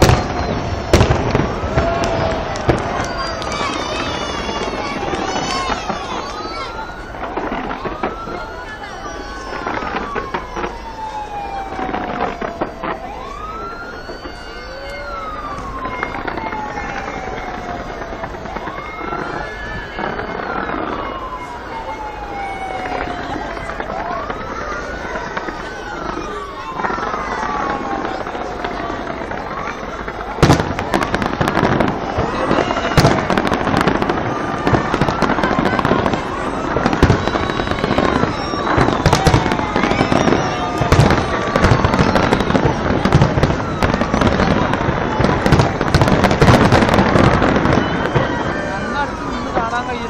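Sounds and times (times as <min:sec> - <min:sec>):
fireworks popping and crackling: 0:00.0 - 0:50.0
siren wailing: 0:00.0 - 0:50.0.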